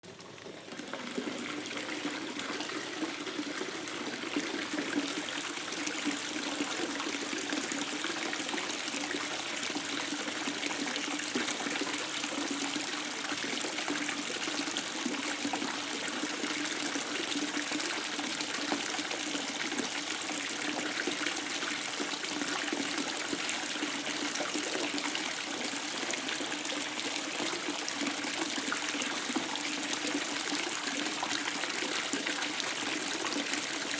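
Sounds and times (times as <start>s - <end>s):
tap water running into bathtub: 0.0s - 33.9s.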